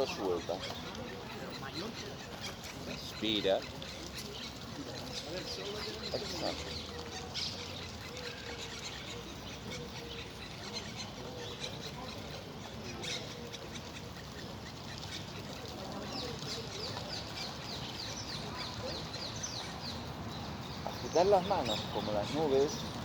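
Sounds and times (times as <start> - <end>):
birds chirping and singing: 0.0 - 23.0
flowing water: 0.0 - 23.0.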